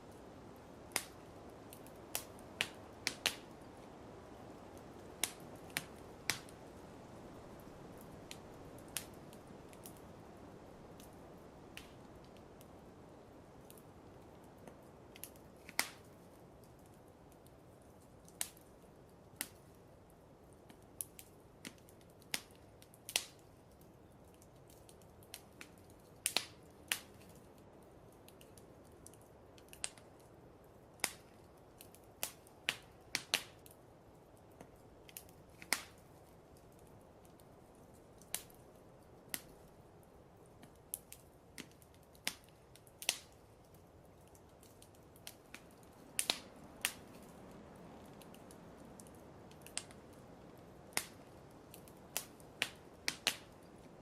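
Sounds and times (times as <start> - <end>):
faint steady hiss: 0.0 - 54.0
wood fire crackling: 0.0 - 54.0.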